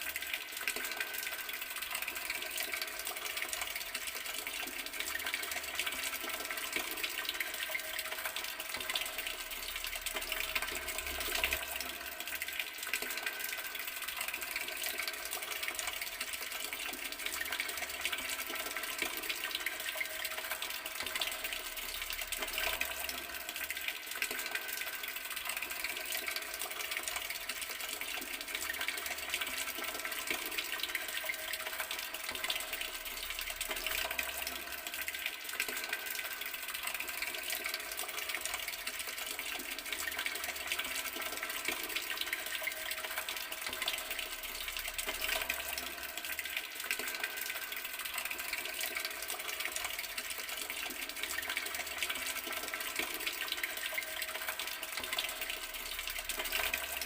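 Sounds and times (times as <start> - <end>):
water tap running: 0.0 - 57.0.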